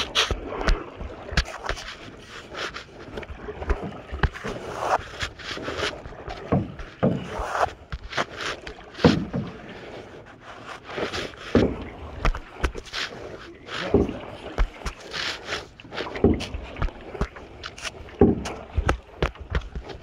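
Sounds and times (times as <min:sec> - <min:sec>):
wood knocking against canoe: 0:00.0 - 0:10.2, 0:11.0 - 0:20.0
paddle swishing through water: 0:00.0 - 0:20.0.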